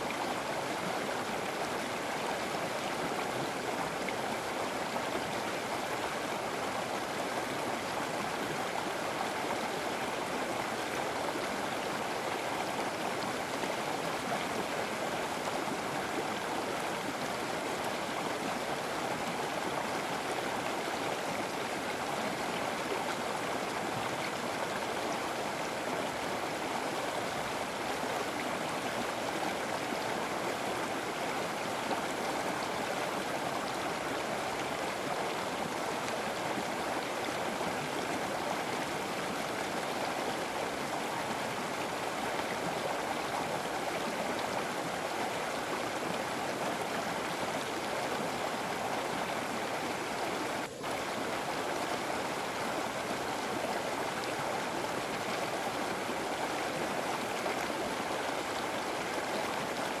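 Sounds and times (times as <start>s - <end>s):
river water rushing: 0.0s - 60.0s.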